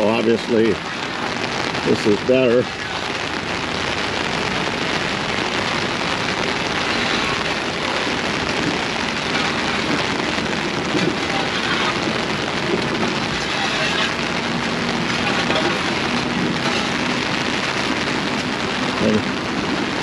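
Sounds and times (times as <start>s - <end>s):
heavy rain on an umbrella: 0.0s - 20.0s.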